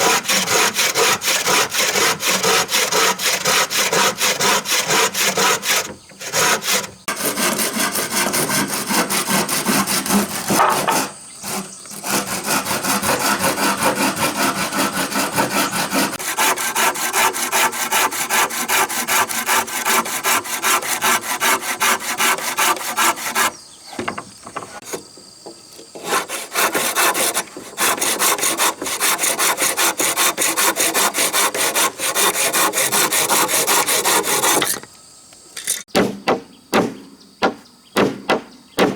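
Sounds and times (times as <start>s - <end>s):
hand saw cutting wood: 0.0s - 25.1s, 25.8s - 34.9s.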